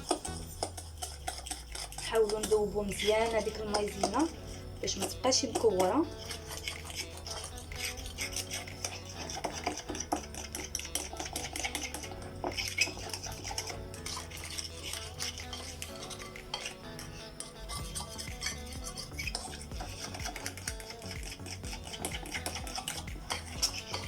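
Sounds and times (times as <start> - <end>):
soft background music: 0.0 - 24.0
utensil clinking and scraping bowl: 0.0 - 24.0.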